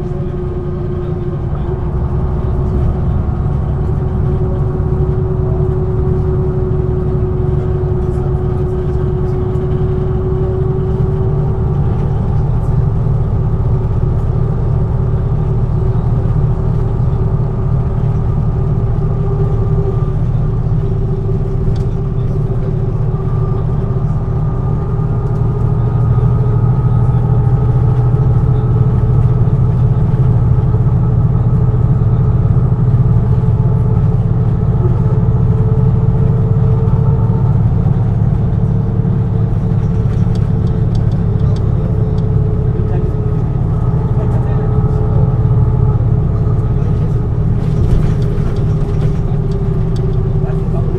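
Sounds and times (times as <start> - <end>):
bus diesel engine drone: 0.0 - 50.9.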